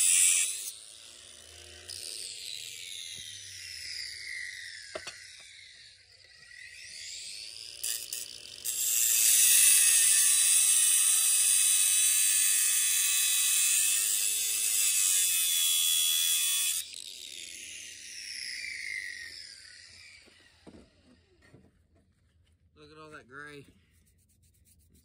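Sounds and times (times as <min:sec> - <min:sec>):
angle grinder cutting metal: 0:00.0 - 0:21.0.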